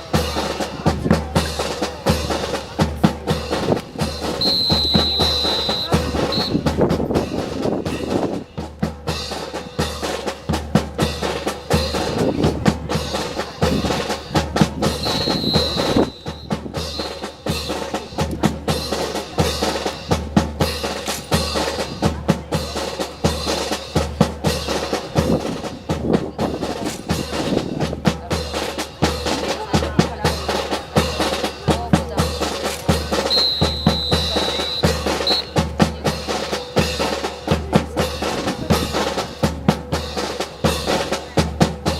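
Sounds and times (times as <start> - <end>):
marching snare drum: 0.0 - 41.9.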